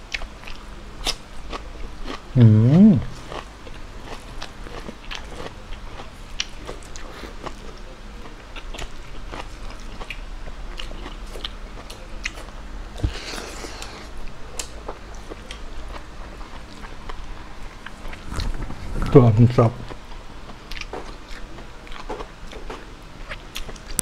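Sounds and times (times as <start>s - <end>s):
person chewing and lip-smacking: 0.1s - 18.6s, 19.9s - 24.0s.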